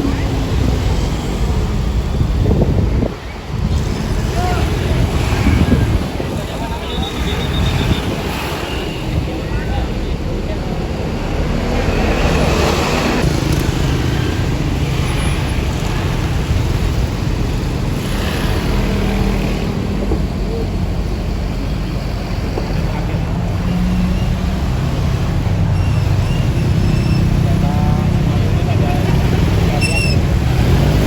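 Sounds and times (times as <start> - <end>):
bus engine running: 0.0 - 31.0
traffic noise: 0.0 - 31.0.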